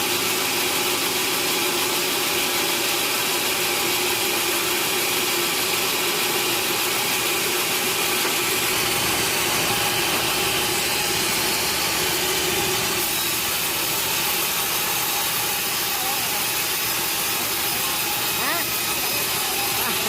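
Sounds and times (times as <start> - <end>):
saw cutting through log: 0.0 - 20.0
machine hum: 2.8 - 20.0.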